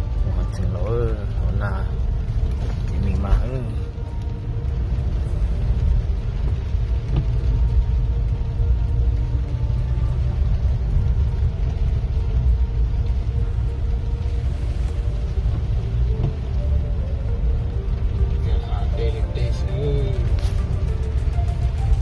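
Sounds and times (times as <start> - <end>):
tyres on wet dirt road: 0.0 - 22.0
vehicle engine rumble: 0.0 - 22.0.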